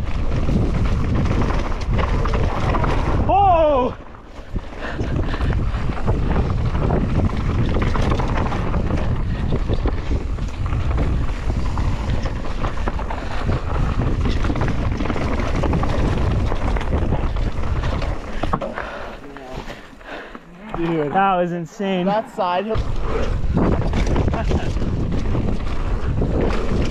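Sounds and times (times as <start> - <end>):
wind on microphone: 0.0 - 19.0, 22.7 - 26.9
bike rattling and knocking: 0.0 - 21.4, 22.7 - 26.9
tyres rolling over dirt: 0.0 - 21.9, 22.7 - 26.9.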